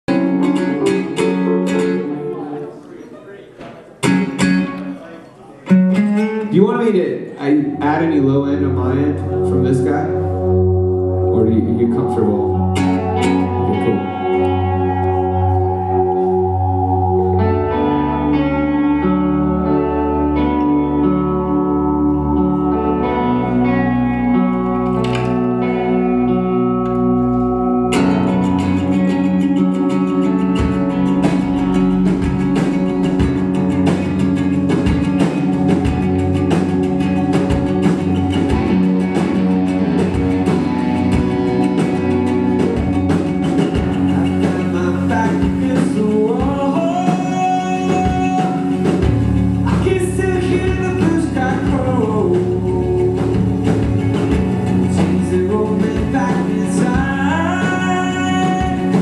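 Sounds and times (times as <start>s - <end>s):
live rock band playing: 0.0s - 2.9s, 3.9s - 5.0s, 5.6s - 59.0s.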